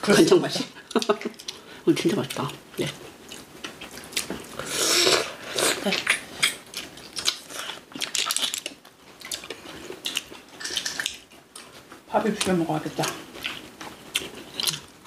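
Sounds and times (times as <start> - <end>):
chewing and mouth noises: 0.8 - 15.0.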